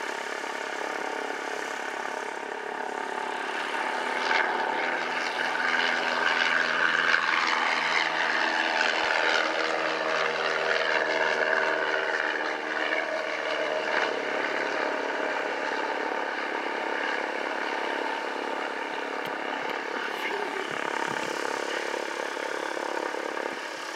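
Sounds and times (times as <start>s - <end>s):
propeller plane engine drone: 0.0s - 23.9s.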